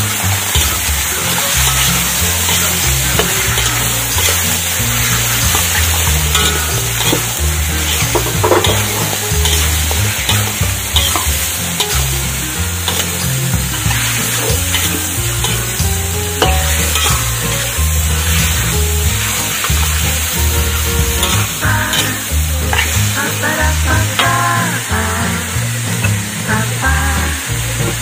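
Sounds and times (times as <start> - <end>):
metal spatula scraping wok: 0.0 - 26.4
chicken sizzling in hot oil: 0.0 - 28.0.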